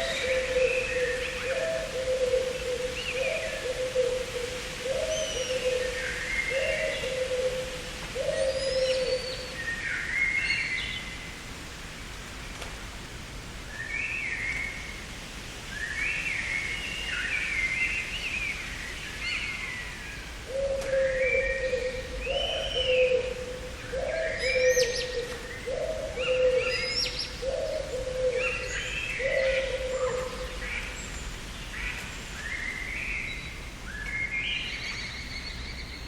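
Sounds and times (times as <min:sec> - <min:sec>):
faint hiss: 0:00.0 - 0:36.0.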